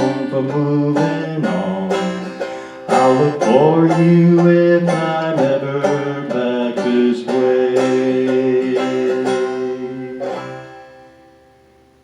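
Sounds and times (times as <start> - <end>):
banjo picking folk song: 0.0 - 12.0.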